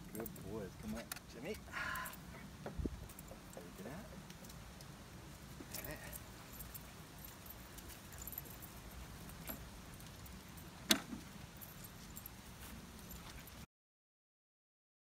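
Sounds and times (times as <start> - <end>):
metallic clinks and rattles: 0.0 - 13.6.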